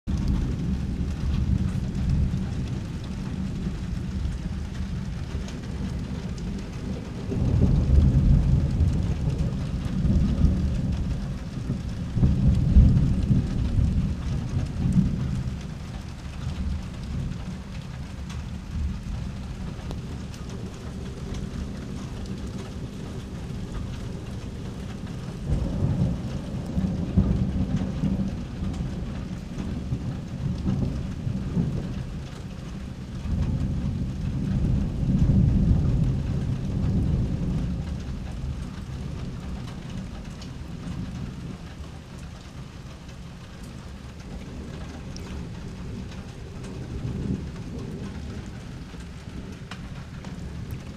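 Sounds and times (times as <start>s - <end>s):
rain falling: 0.0s - 50.9s
low thunder rolling: 0.1s - 50.9s.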